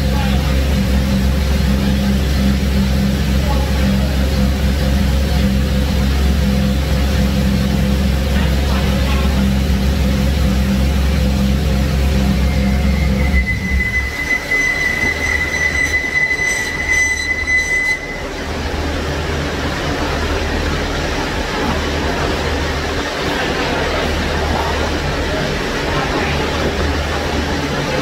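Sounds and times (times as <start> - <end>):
high-pitched whine: 0.0 - 28.0
loud rushing noise: 0.0 - 28.0
rotary engine idling: 0.0 - 28.0.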